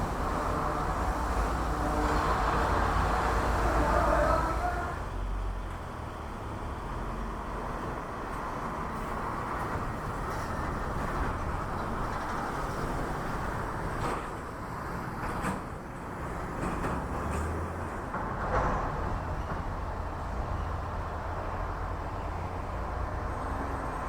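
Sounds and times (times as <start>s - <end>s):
distant traffic: 0.0s - 24.0s.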